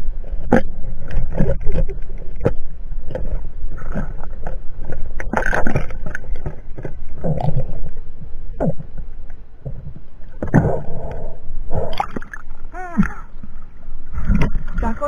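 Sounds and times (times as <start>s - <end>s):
muffled underwater gurgling: 0.0s - 9.0s, 9.6s - 15.0s.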